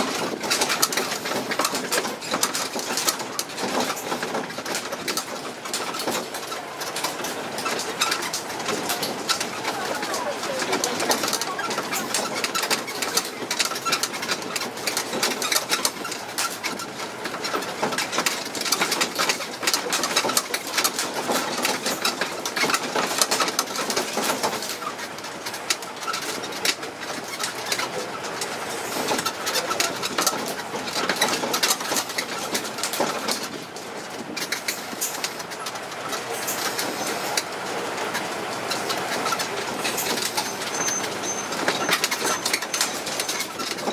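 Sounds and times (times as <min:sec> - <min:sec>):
carriage rattling and creaking: 0:00.0 - 0:43.9
vehicle running noise: 0:00.0 - 0:43.9.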